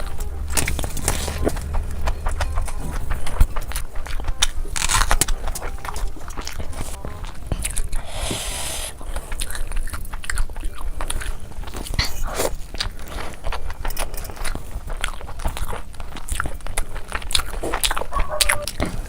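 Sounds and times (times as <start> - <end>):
crackly crunching burst: 0.0 - 19.0
person chewing food: 0.0 - 19.0.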